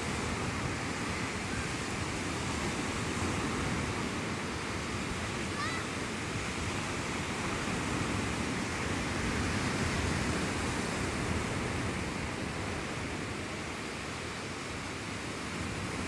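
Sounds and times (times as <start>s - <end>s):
sea surf washing onto shore: 0.0s - 16.0s.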